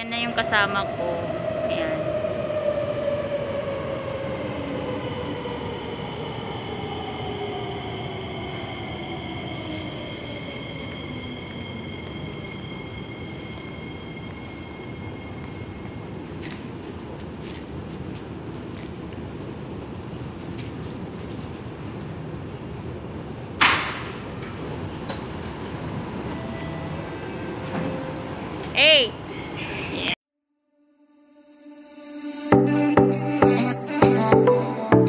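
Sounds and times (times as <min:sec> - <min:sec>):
rumble of train wheels: 0:00.0 - 0:30.2.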